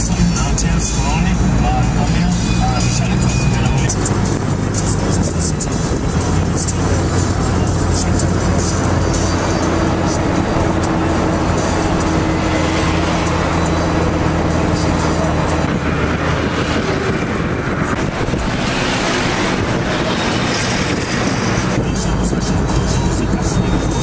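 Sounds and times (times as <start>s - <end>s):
low engine drone: 0.0s - 24.0s
tyres and wind rushing: 0.0s - 24.0s.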